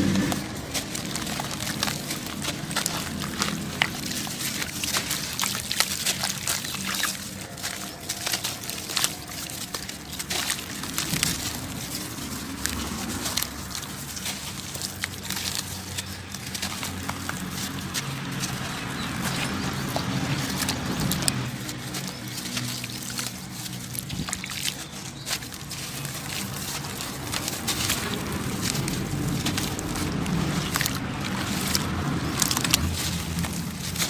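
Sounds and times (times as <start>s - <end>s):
crumbly material being crushed: 0.0s - 34.0s.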